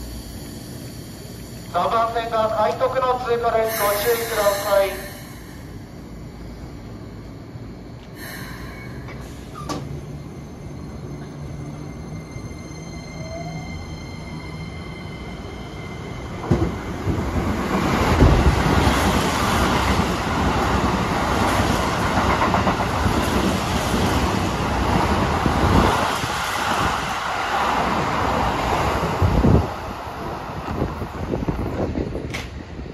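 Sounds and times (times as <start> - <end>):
electric train rushing past: 0.0 - 32.9.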